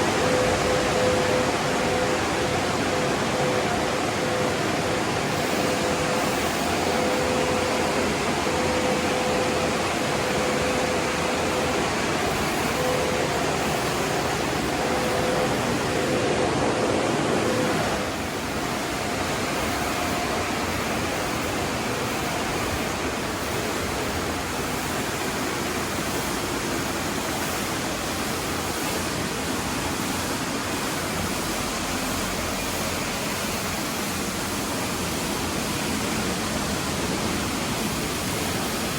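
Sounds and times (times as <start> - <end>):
car wash water spray and blowers: 0.0 - 38.9
steady hum: 0.0 - 38.9.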